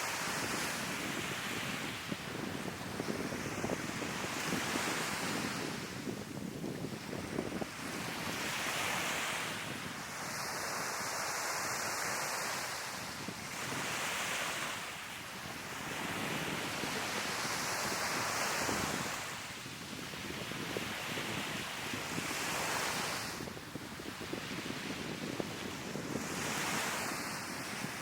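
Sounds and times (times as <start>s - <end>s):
sea waves breaking on beach: 0.0s - 28.0s
wind buffeting microphone: 0.2s - 10.4s, 15.4s - 28.0s.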